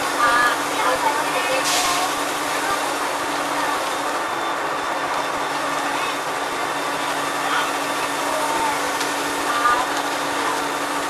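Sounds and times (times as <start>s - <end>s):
bus engine humming: 0.0s - 11.0s
tyre and road noise: 0.0s - 11.0s.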